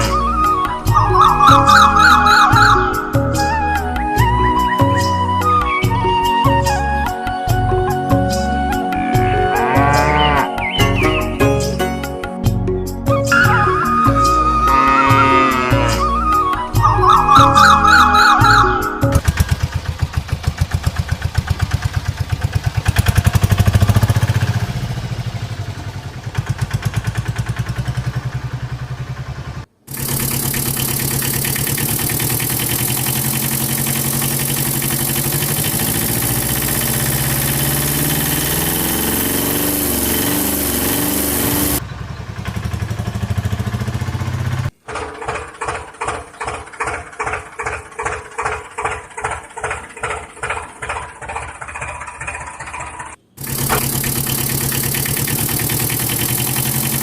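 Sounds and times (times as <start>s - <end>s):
small engine pulsing: 0.0s - 11.8s, 13.1s - 57.0s.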